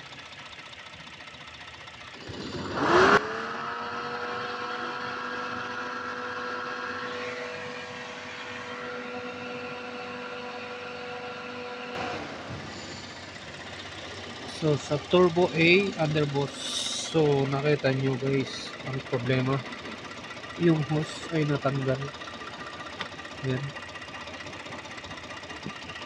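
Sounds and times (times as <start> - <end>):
car engine revving with whine: 1.9 - 26.0.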